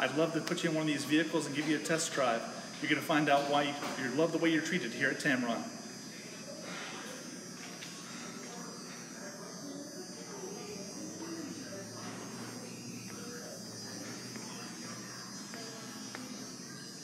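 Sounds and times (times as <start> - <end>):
electrical hum with high buzz: 0.0 - 17.0.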